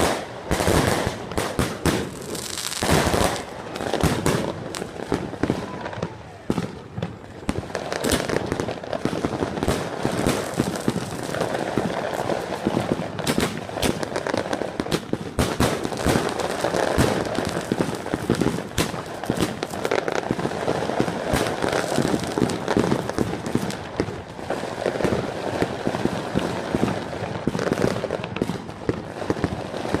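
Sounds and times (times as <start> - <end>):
fireworks cracking and popping: 0.0 - 30.0.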